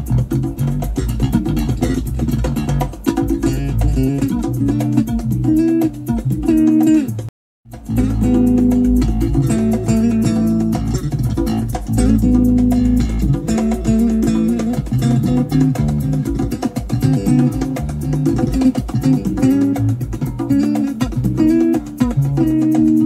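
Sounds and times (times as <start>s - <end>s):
plucked guitar and bass music: 0.0s - 23.0s.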